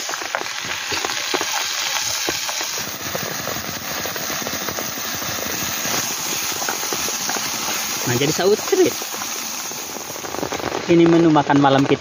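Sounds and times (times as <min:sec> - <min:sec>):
spinach sizzling in oil: 0:00.0 - 0:11.8.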